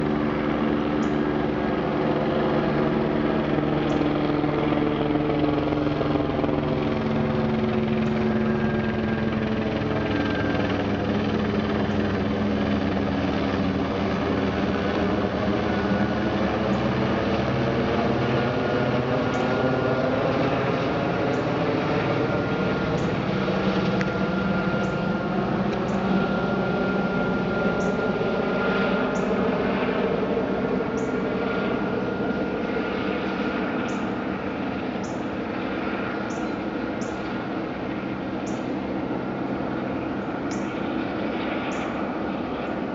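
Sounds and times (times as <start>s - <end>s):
helicopter circling overhead: 0.0s - 42.9s.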